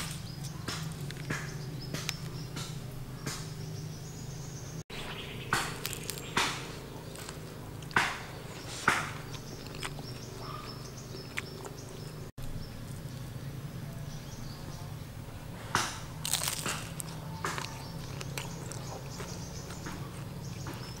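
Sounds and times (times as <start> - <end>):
crunching and chewing spring roll: 0.0 - 3.5, 5.0 - 14.3, 15.5 - 21.0
steady low hum: 0.0 - 21.0.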